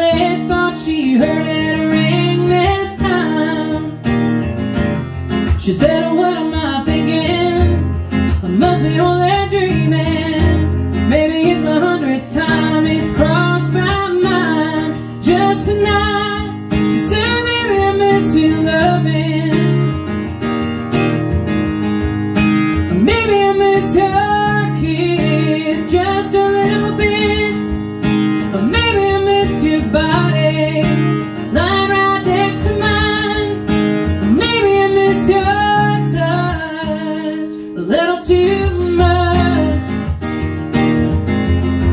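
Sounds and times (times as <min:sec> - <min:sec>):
strummed acoustic guitar: 0:00.0 - 0:41.9
woman singing country song: 0:00.0 - 0:41.9.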